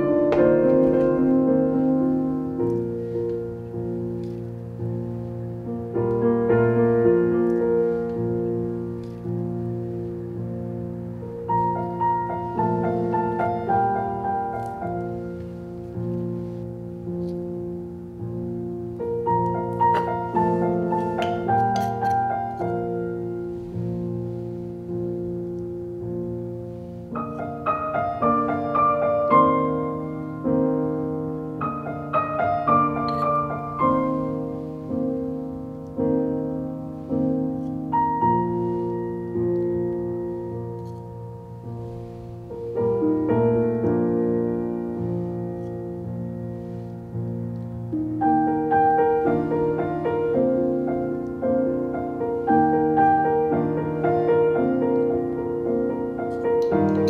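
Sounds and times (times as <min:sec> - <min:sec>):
slow gentle piano music: 0:00.0 - 0:57.0.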